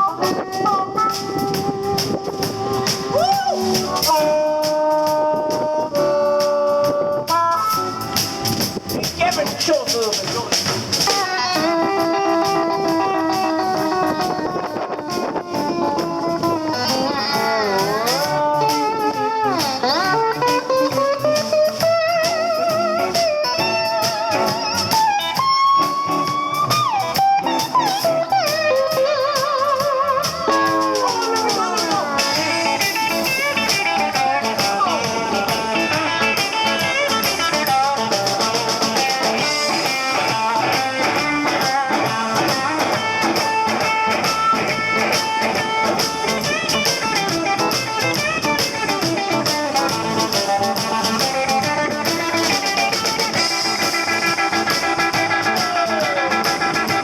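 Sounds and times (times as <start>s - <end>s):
lead guitar solo: 0.0s - 9.2s, 11.0s - 57.0s
blues band backing: 0.0s - 57.0s.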